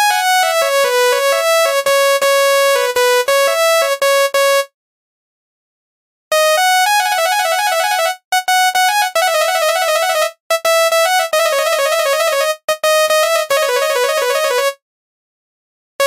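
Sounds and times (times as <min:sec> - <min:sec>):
electronic bus horn melody: 0:00.0 - 0:04.7, 0:06.3 - 0:14.8.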